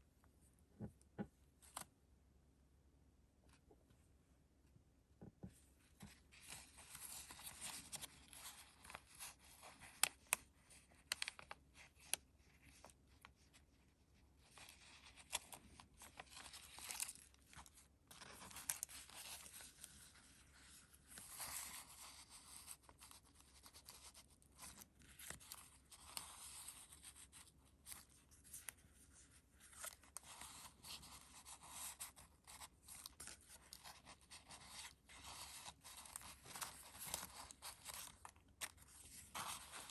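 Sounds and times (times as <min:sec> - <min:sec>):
paper rustling and crinkling: 0:06.0 - 0:13.5, 0:14.4 - 0:39.9.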